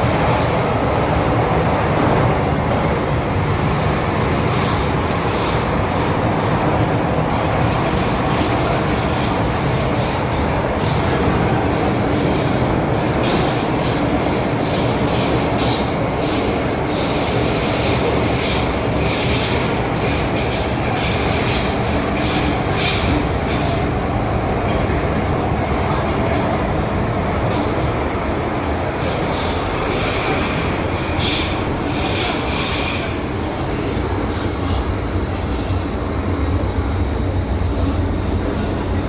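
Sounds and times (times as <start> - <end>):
train rumbling along track: 0.0 - 39.0.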